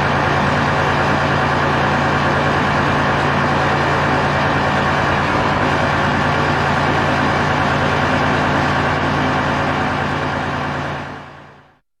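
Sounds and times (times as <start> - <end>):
tank engine idling: 0.0 - 11.7.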